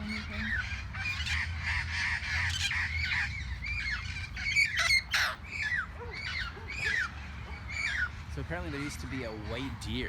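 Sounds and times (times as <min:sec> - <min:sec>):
parrots squawking: 0:00.0 - 0:10.0.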